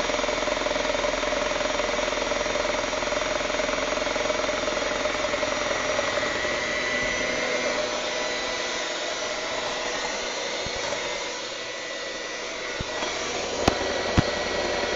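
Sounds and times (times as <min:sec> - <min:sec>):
hand mixer motor whining: 0:00.0 - 0:14.9.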